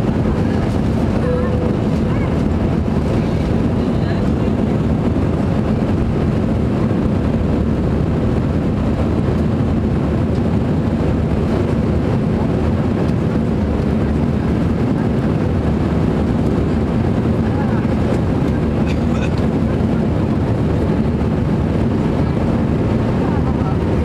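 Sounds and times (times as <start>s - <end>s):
jet airliner cabin engine rumble: 0.0s - 24.0s.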